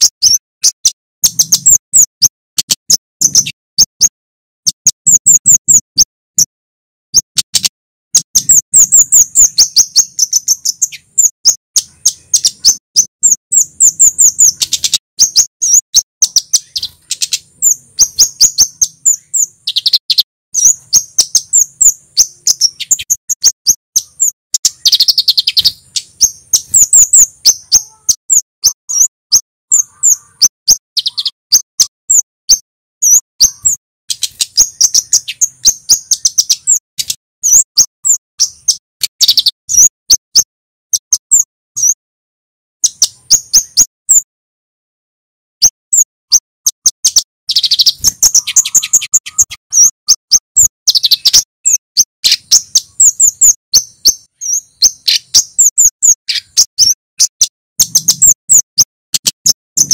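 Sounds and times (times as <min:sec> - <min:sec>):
bird calling sharp high notes: 0:07.2 - 0:42.0, 0:45.6 - 0:59.9.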